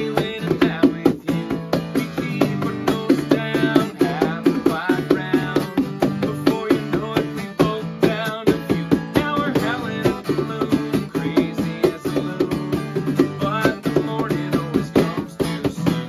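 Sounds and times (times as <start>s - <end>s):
acoustic guitar strumming: 0.0s - 16.0s
man singing: 0.0s - 16.0s.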